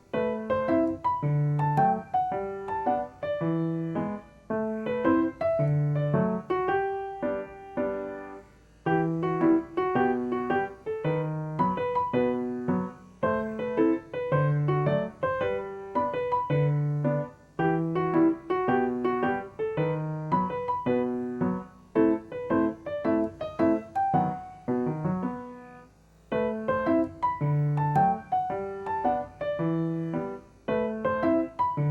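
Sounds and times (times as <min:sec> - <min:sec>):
solo piano melody: 0:00.0 - 0:31.9.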